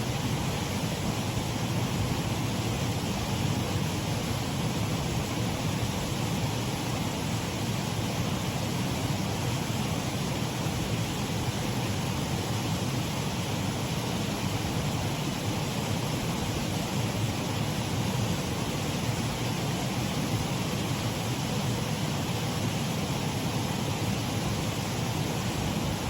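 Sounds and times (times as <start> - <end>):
stream running over waterfall: 0.0 - 26.0.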